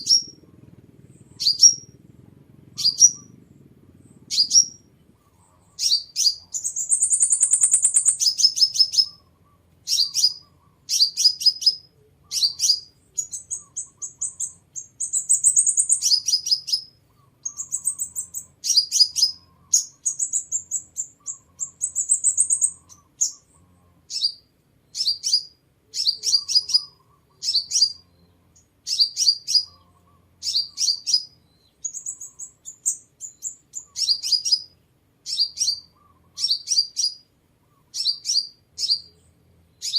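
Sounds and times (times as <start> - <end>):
sunbird trilled phrases: 0.0 - 39.9.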